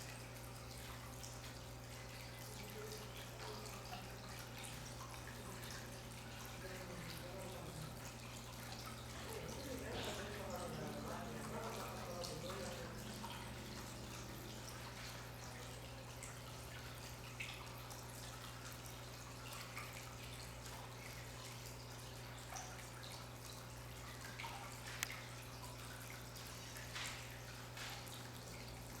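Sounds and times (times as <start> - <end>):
low steady hum: 0.0 - 29.0
water drips and splashes: 0.0 - 29.0
water trickling down waterfall: 0.0 - 29.0.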